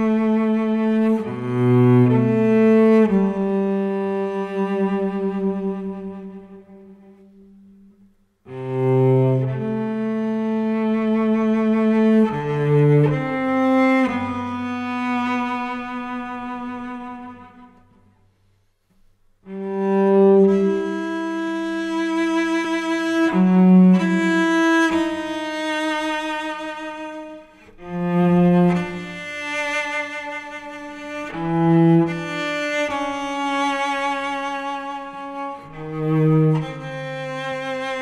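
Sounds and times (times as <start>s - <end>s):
solo cello bowed: 0.0s - 18.5s, 19.4s - 38.0s.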